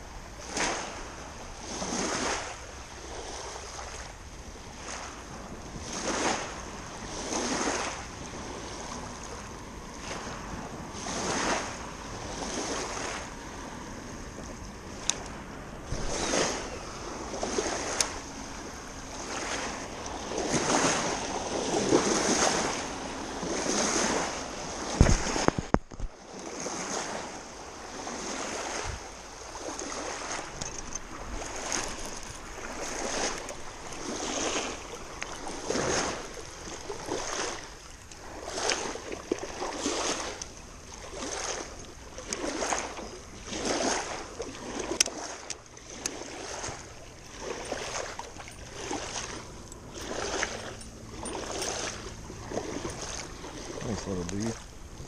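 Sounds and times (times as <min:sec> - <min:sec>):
small waves lapping on a bank: 0:00.0 - 0:55.0
wind on microphone: 0:00.0 - 0:55.0.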